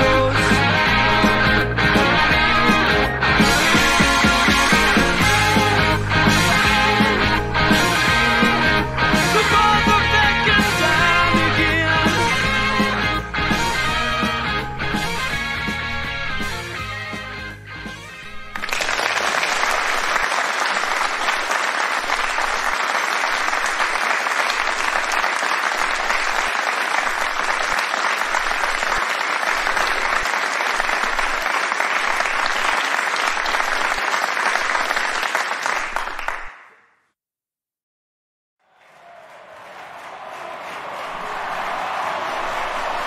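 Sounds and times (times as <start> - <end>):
audience applause: 0.4 - 15.7, 18.3 - 36.8, 38.6 - 43.0.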